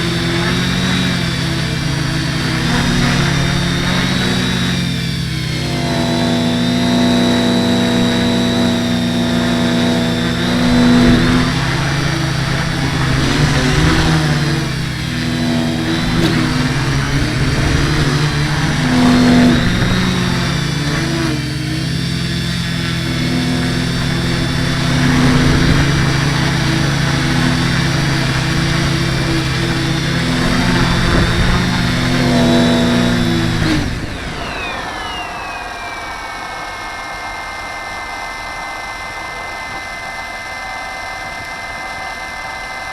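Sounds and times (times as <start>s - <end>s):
quadcopter motors buzzing: 0.0s - 42.9s.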